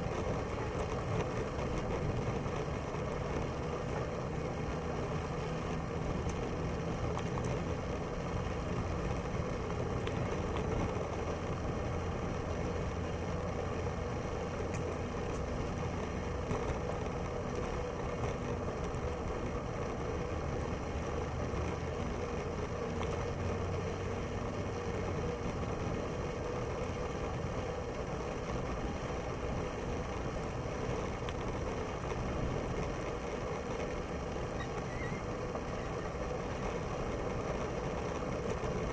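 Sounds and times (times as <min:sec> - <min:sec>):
bicycle tyre and drivetrain noise: 0:00.0 - 0:38.9.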